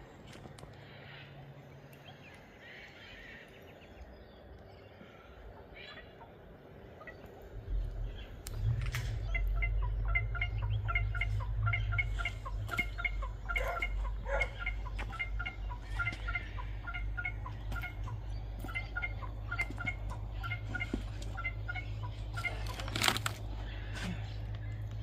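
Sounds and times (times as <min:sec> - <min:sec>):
birds chirping: 0:00.0 - 0:25.0
steady low rumble: 0:00.0 - 0:25.0.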